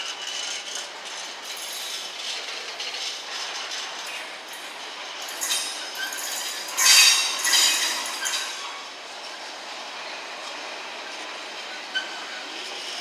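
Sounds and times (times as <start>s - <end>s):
train rushing noise: 0.0s - 13.0s.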